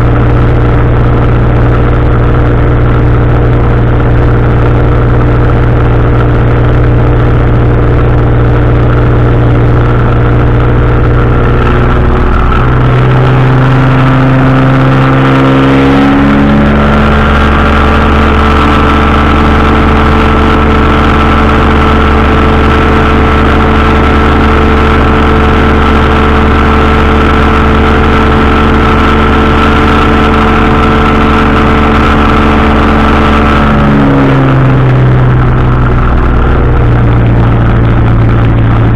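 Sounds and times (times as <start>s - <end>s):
engine and propeller running: 0.0s - 38.9s.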